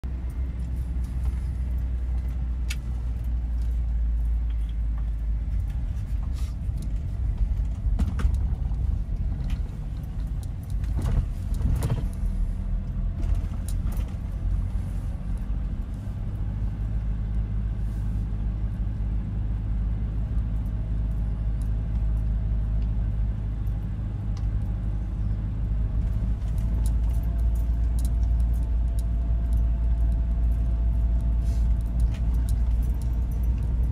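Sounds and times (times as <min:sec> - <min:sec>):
car engine and tyres rumbling: 0:00.0 - 0:33.9
light clicks and rattles: 0:00.2 - 0:16.6, 0:20.3 - 0:33.9.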